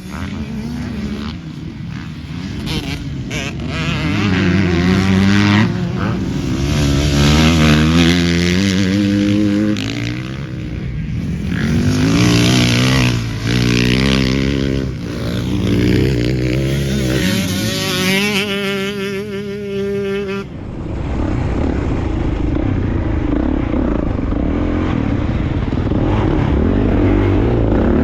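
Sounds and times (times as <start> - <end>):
motocross bike engine revving: 0.0 - 20.6, 21.4 - 28.0.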